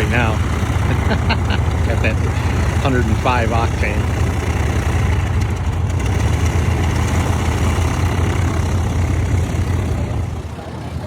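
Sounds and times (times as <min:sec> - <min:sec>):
aircraft engine idling: 0:00.0 - 0:11.0.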